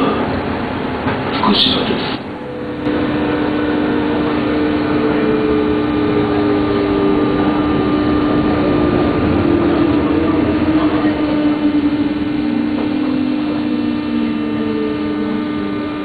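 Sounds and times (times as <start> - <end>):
train motor hum: 0.0 - 16.0.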